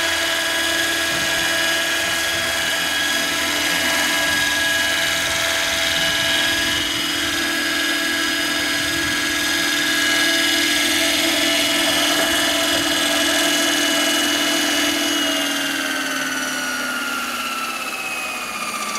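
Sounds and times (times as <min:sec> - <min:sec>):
helicopter rotors spinning: 0:00.0 - 0:18.9
model helicopter motor whine: 0:00.0 - 0:18.9.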